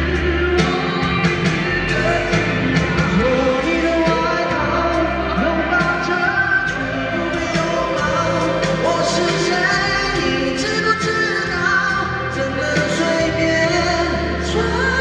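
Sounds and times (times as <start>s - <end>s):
backing music: 0.0s - 15.0s
man singing into microphone: 0.0s - 15.0s.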